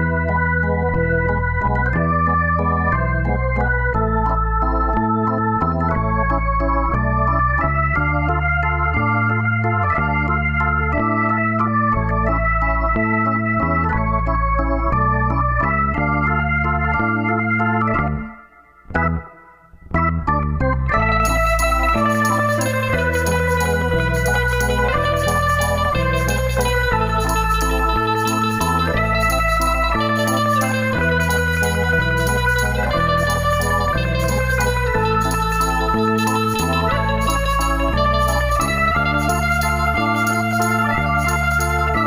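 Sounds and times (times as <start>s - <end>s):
bass line: 0.0s - 42.0s
organ-like keyboard chords: 0.0s - 42.0s.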